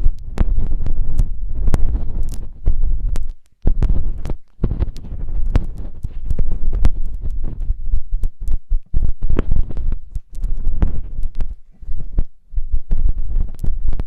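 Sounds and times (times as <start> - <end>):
sharp clicks: 0.0 - 12.3
deep rumble: 0.0 - 14.0
muffled thuds: 0.0 - 14.0
rubbing on ear microphone: 0.0 - 14.0.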